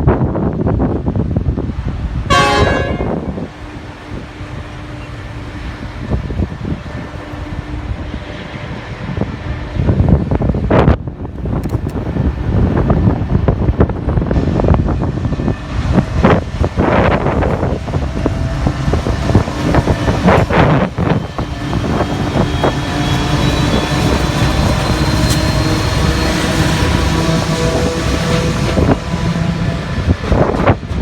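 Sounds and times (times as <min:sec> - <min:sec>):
freight train rumbling past: 0:00.0 - 0:31.0
wind buffeting microphone: 0:00.0 - 0:31.0
steady whining tones: 0:03.1 - 0:31.0.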